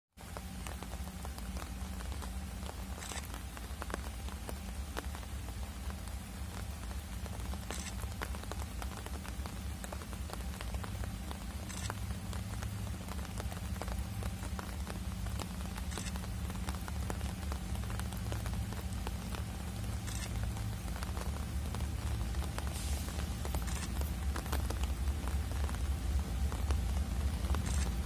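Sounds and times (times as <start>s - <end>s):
distant diesel locomotives humming: 0.2s - 28.0s
rain pattering: 0.2s - 28.0s.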